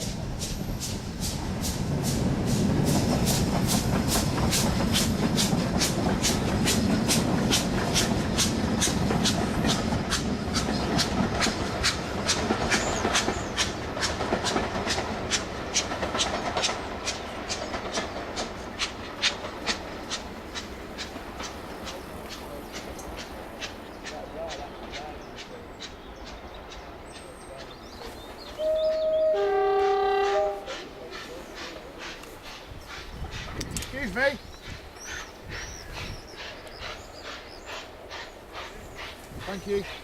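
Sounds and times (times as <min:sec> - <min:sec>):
train rumbling past: 0:00.0 - 0:40.0
train wheels clicking on rail joints: 0:00.0 - 0:40.0.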